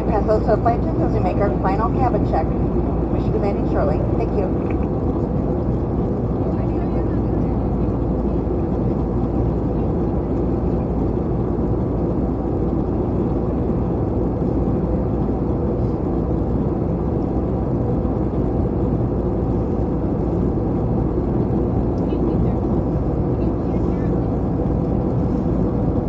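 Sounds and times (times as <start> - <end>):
airplane engine drone: 0.0 - 26.0.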